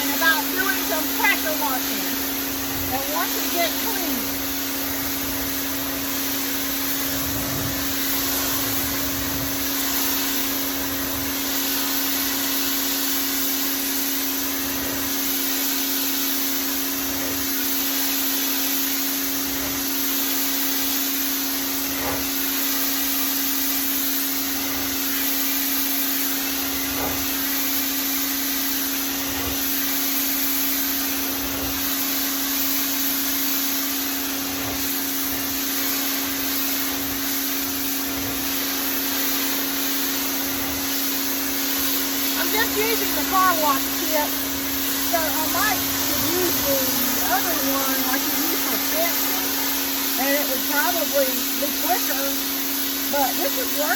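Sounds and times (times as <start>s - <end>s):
pressure washer spraying: 0.0s - 53.9s.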